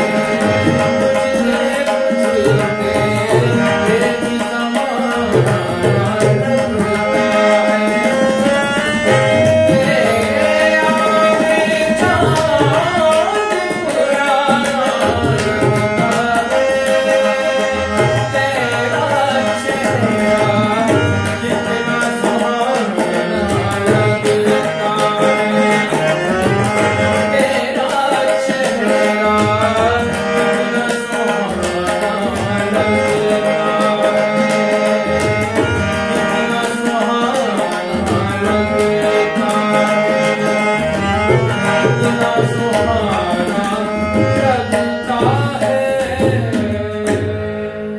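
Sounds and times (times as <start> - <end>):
harmonium sustained tones: 0.0 - 47.9
man singing: 0.0 - 47.9
tabla rhythm: 0.0 - 47.9.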